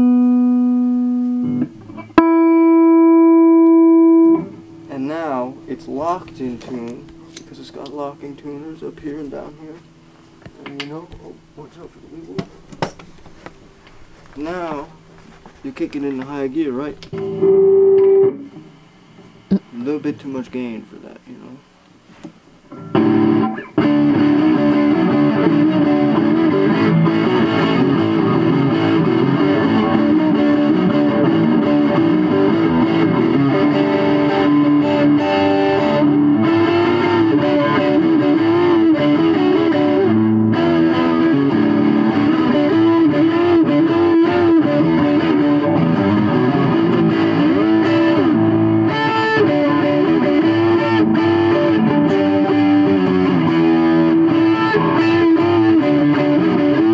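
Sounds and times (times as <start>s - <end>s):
distorted electric guitar lead: 0.0s - 20.3s, 22.6s - 56.9s.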